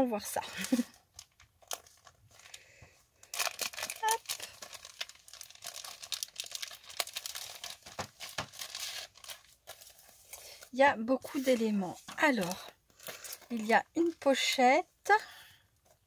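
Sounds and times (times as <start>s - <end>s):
plastic packaging crinkling: 0.3s - 14.6s.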